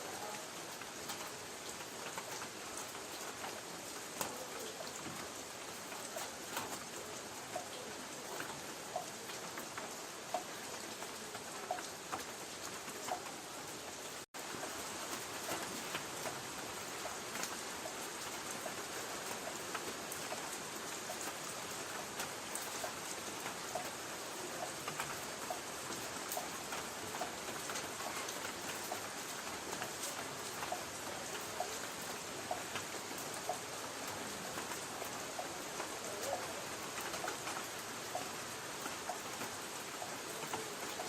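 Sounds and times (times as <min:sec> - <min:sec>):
light rain on a tin roof: 0:00.0 - 0:41.0.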